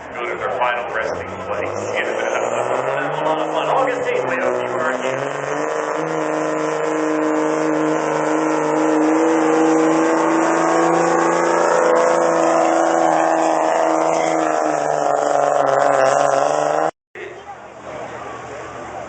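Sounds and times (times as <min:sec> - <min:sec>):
pickup truck engine at high revs: 0:00.0 - 0:17.0.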